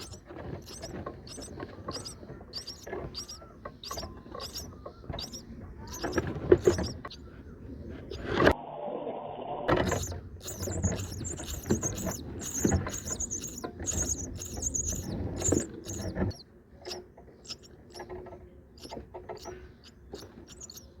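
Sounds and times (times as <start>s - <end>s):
starlings squeaky calls: 0.0s - 8.3s, 9.7s - 18.2s, 18.8s - 21.0s.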